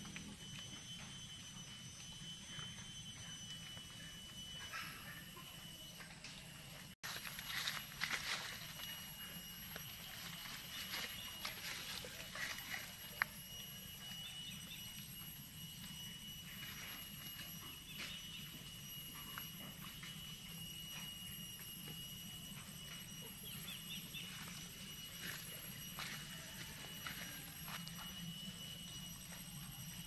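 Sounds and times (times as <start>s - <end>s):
faint chirps: 0.0s - 30.0s
high-pitched whine: 0.0s - 30.0s.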